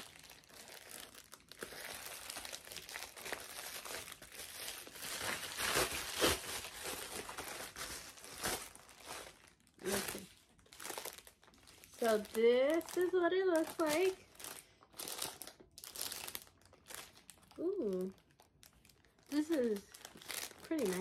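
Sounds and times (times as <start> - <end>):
plastic mailer bag crinkling: 0.0 - 21.0
plastic ripping: 0.0 - 21.0.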